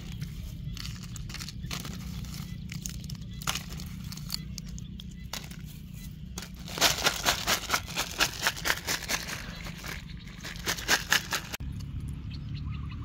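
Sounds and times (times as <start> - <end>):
plastic wrappers crinkling: 0.0 - 5.7, 6.4 - 11.6.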